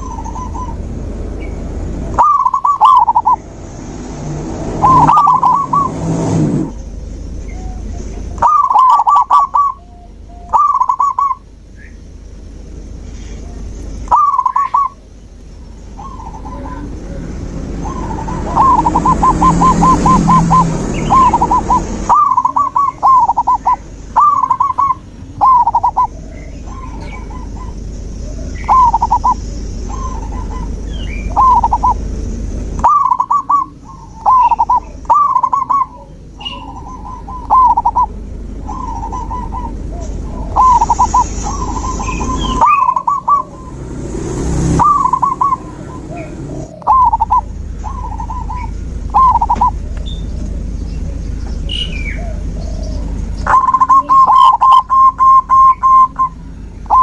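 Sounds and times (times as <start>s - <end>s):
dove cooing: 0.0s - 0.9s, 2.0s - 3.4s, 4.7s - 5.9s, 7.5s - 11.5s, 13.2s - 15.0s, 16.0s - 32.1s, 32.8s - 43.8s, 44.8s - 57.0s
small birds chirping: 0.0s - 6.0s, 6.7s - 57.0s.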